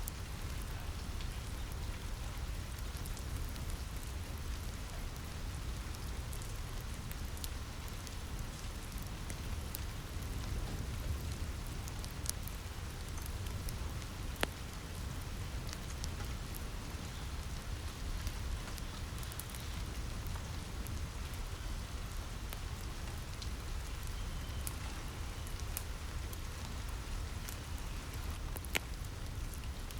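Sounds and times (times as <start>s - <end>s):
rain on a roof: 0.0s - 29.9s
wood fire crackling: 0.0s - 29.9s.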